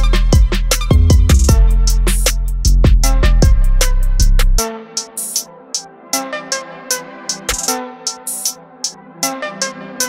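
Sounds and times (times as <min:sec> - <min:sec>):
electronic hip hop beat: 0:00.0 - 0:10.0.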